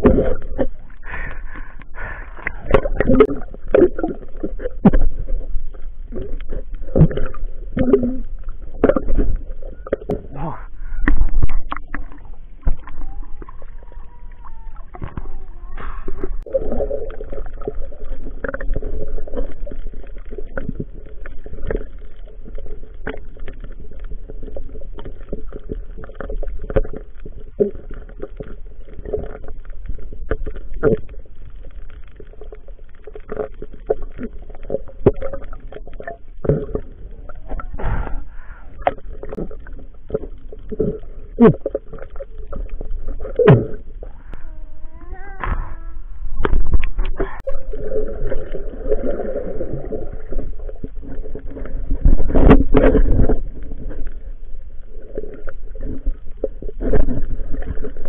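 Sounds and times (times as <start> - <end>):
water sloshing and gurgling underwater: 0.0 - 58.0.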